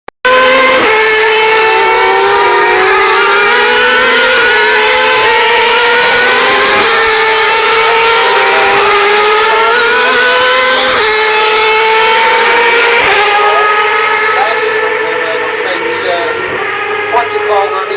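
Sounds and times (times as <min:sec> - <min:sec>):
race car engine at high revs: 0:00.2 - 0:17.9.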